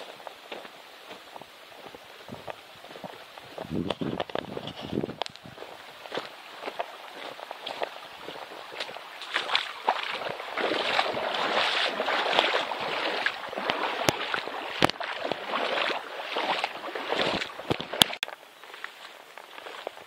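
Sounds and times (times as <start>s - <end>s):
footsteps splashing through water: 0.0s - 20.0s.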